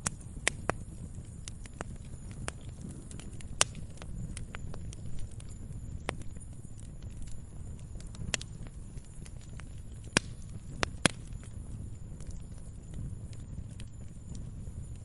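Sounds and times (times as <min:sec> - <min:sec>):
log fire crackling and popping: 0:00.0 - 0:15.0.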